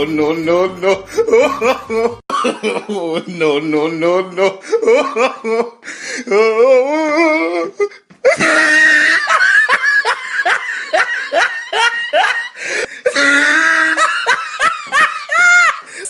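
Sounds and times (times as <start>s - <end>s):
person laughing loudly: 0.0s - 16.0s.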